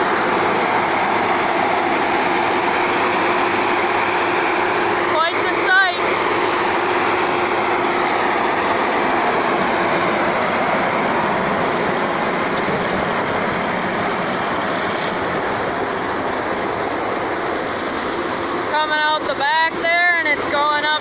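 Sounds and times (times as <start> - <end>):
dryer fans rushing: 0.0 - 21.0
machinery running: 0.0 - 21.0.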